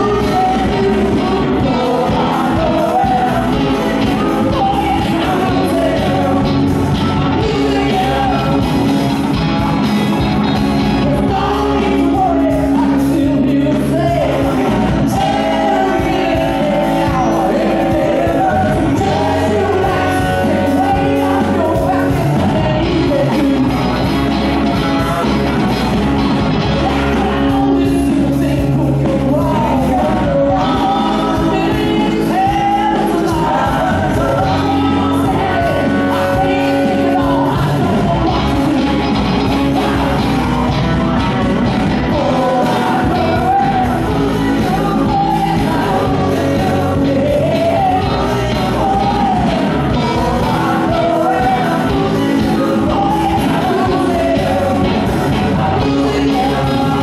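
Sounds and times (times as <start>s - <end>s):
man singing into a microphone: 0.0s - 25.6s, 26.6s - 57.0s
live rock band playing: 0.0s - 57.0s.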